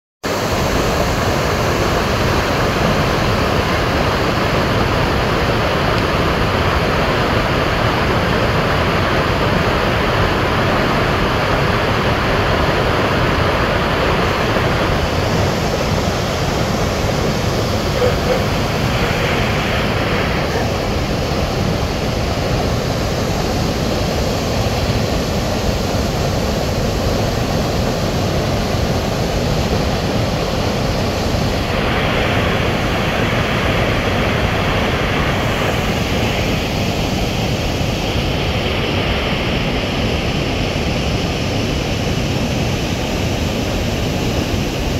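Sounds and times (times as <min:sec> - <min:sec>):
waterfall rushing: 0:00.3 - 0:44.9.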